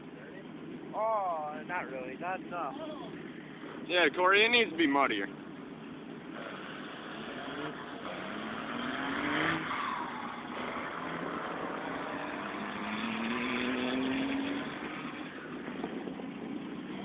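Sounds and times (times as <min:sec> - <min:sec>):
truck engines revving: 0:00.0 - 0:17.0.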